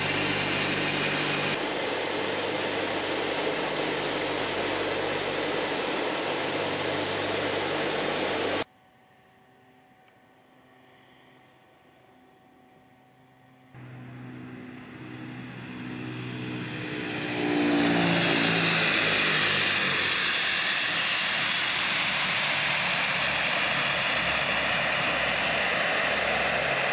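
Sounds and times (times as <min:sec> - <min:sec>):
turboprop engines droning: 0:00.0 - 0:08.7, 0:10.2 - 0:26.9.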